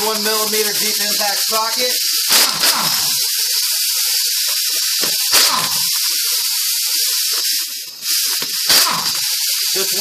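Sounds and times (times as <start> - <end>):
impact wrench bursts: 0.0 - 10.0
steady air hiss: 0.0 - 10.0.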